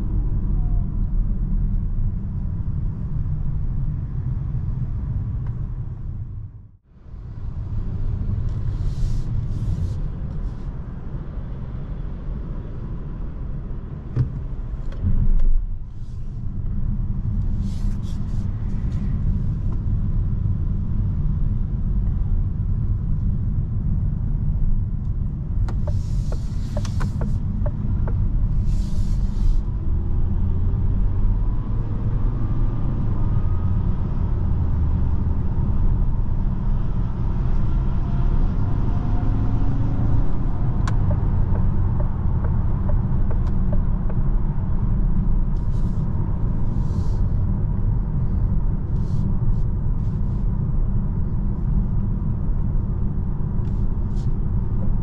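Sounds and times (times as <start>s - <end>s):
road and tyre rumble in car: 0.0s - 55.0s.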